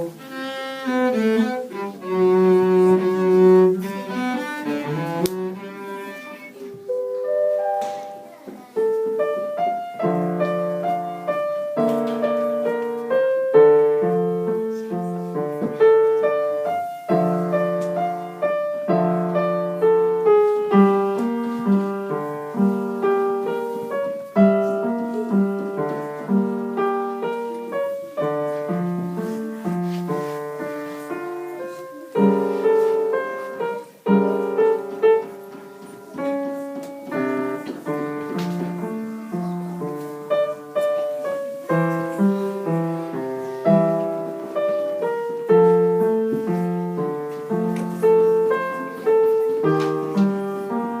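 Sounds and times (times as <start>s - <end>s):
piano piece: 0.0s - 51.0s.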